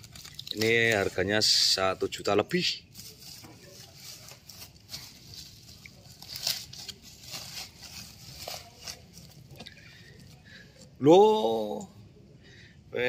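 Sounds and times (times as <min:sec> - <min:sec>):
plastic film and tape crinkling: 0:00.0 - 0:11.0.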